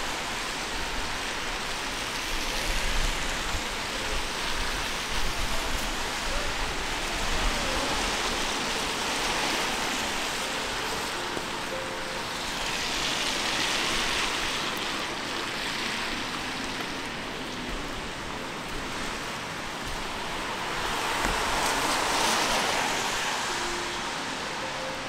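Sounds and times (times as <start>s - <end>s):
rain hissing on wet street: 0.0s - 25.0s.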